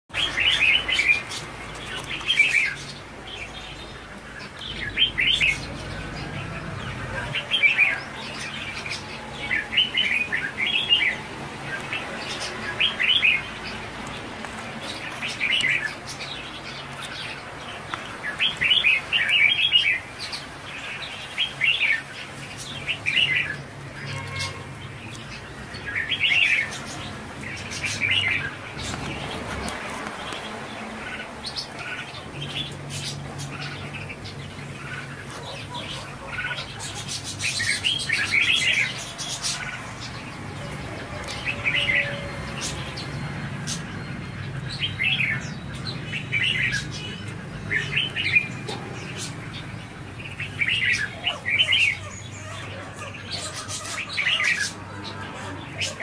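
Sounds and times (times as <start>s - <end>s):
birds chirping: 0.1s - 56.0s.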